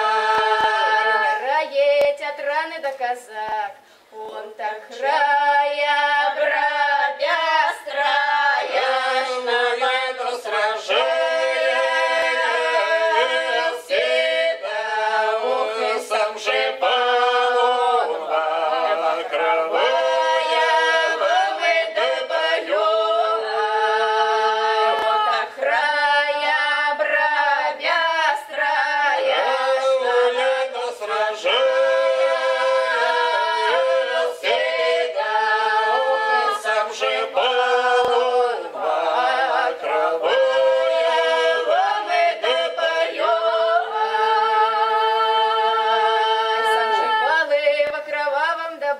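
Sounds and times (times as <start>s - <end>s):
group singing in close harmony: 0.0s - 2.0s, 4.0s - 48.3s.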